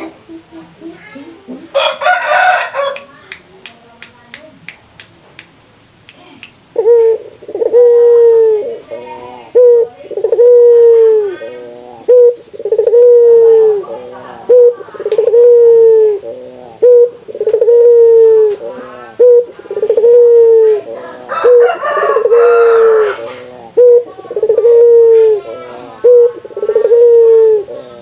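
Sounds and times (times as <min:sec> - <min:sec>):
dove cooing: 0:00.0 - 0:03.3, 0:06.7 - 0:28.0.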